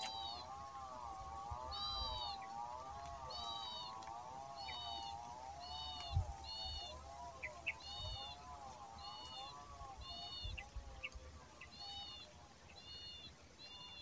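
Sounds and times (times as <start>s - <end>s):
lower wavering animal calls: 0.0s - 14.0s.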